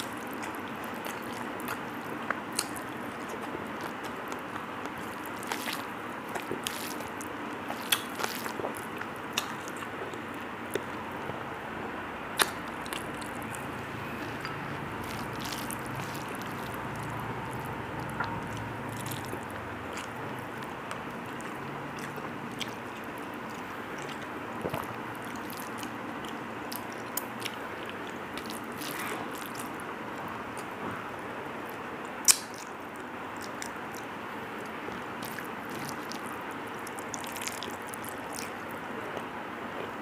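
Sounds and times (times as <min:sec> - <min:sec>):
person chewing and smacking: 0:00.0 - 0:11.4, 0:12.3 - 0:30.8, 0:31.6 - 0:40.0.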